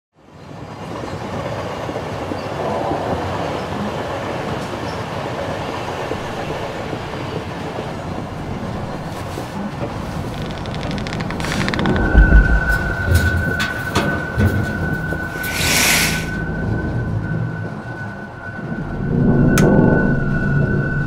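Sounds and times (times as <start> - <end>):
train carriage rumbling and rattling: 0.2 - 21.0.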